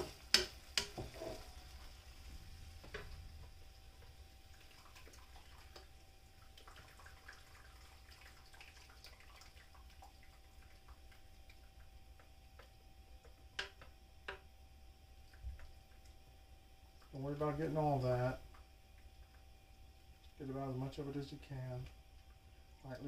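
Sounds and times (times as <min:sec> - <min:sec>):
faint steady tone: 0:00.0 - 0:23.0
faint drips and ticks: 0:02.8 - 0:14.5, 0:15.1 - 0:23.0.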